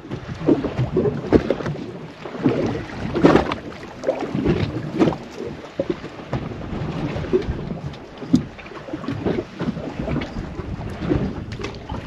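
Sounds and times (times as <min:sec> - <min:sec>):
waves slapping against boat hull: 0:00.0 - 0:12.0
wind buffeting microphone: 0:00.0 - 0:12.0.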